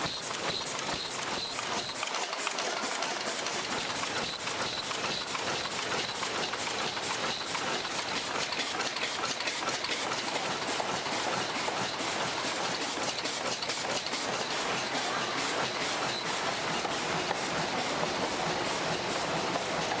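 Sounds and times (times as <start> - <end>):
machine clattering rapidly: 0.0 - 20.0.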